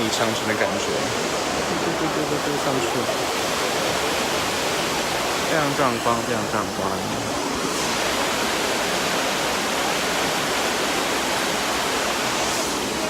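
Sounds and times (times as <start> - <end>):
water rushing down stone cascade: 0.0 - 13.0.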